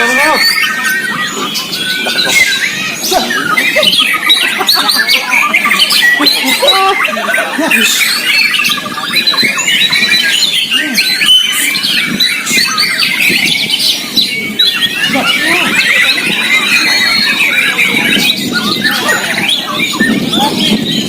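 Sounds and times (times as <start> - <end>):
birds singing: 0.0 - 21.0.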